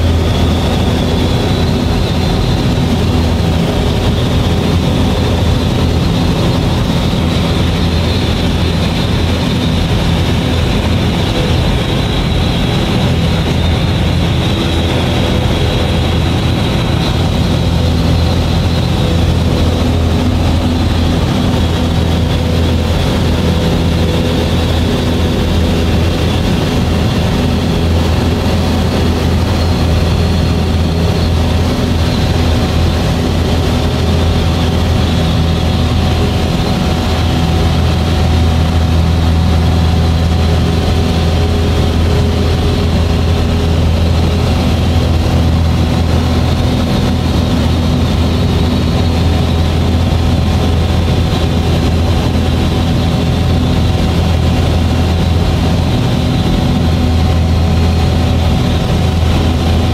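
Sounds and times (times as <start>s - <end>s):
propeller engine droning: 0.0s - 59.9s.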